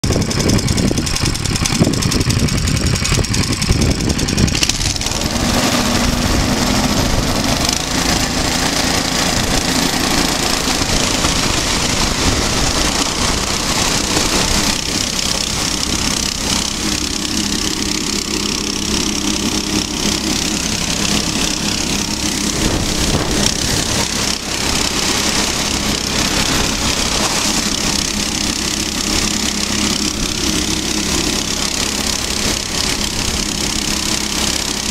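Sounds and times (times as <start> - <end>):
small petrol engine running: 0.0 - 34.9
track rushing noise: 0.0 - 34.9
wind: 0.0 - 34.9.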